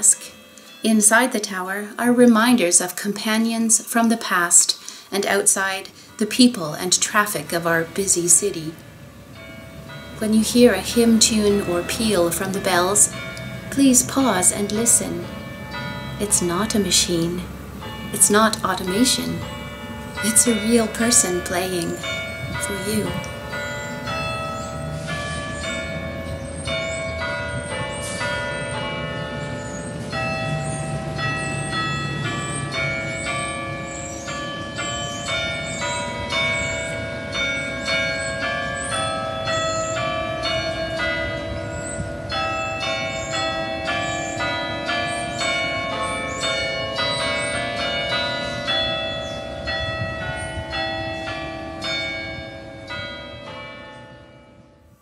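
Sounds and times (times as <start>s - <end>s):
church bells playing a tune: 0.0s - 55.0s.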